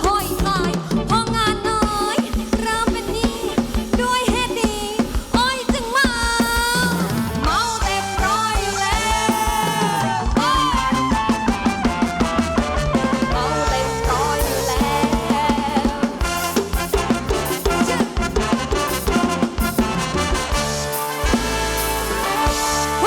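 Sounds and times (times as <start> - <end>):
drum kit beat: 0.0 - 23.0
live band music over pa: 0.0 - 23.0.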